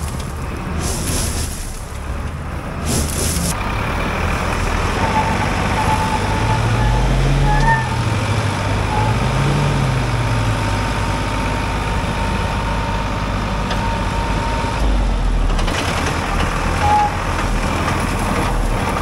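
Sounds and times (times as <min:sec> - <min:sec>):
vehicle engines running: 0:00.0 - 0:19.0.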